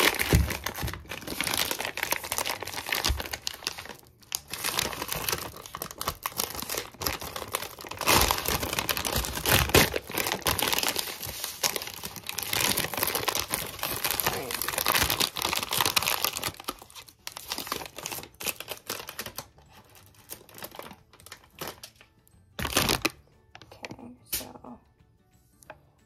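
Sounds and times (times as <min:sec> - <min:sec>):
plastic bag crinkling: 0:00.0 - 0:23.2.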